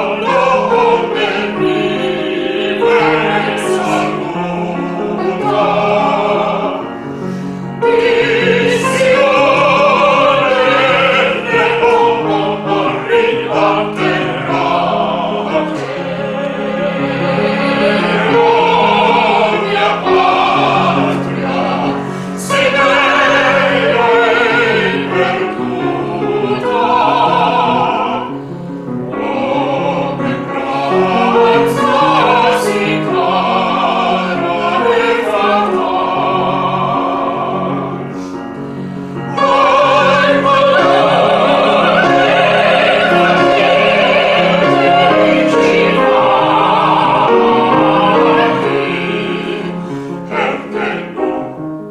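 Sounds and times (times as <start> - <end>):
classical singing with vibrato: 0.0 - 51.9
musical accompaniment: 0.0 - 51.9.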